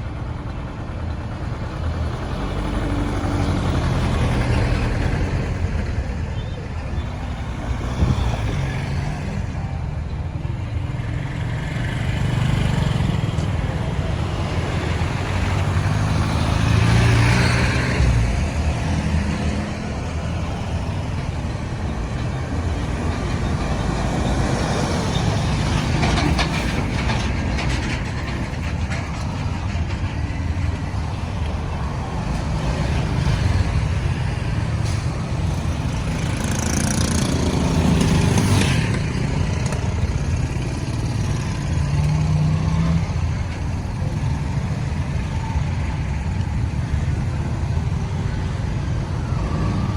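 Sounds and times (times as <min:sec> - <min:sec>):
road noise: 0:00.0 - 0:49.9
vehicle engines: 0:00.0 - 0:49.9
vehicles passing close by: 0:00.0 - 0:49.9.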